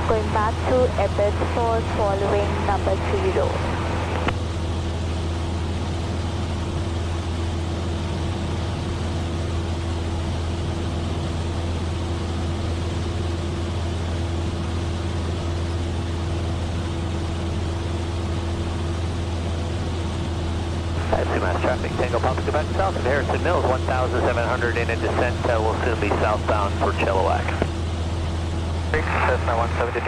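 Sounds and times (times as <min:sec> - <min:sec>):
airplane engine drone in cabin: 0:00.0 - 0:30.0.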